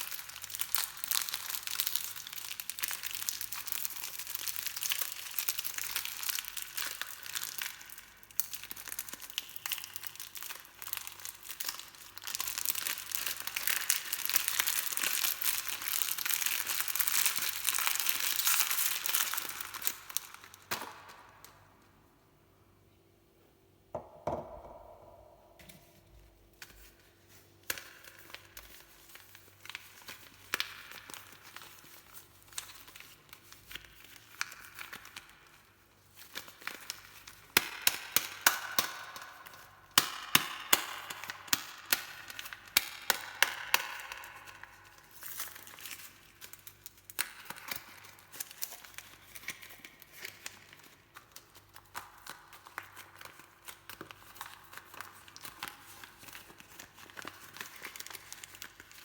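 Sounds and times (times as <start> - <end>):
packaging tearing and crumpling: 0.0 - 21.0, 26.6 - 59.0.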